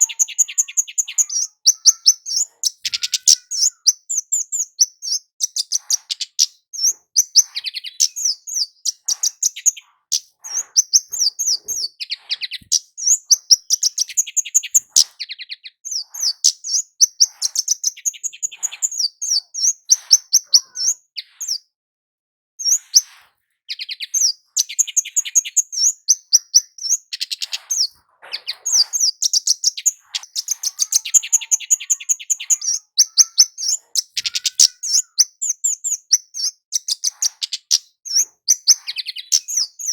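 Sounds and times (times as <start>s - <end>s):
bird chirping and trilling: 0.0s - 21.7s, 22.6s - 39.9s.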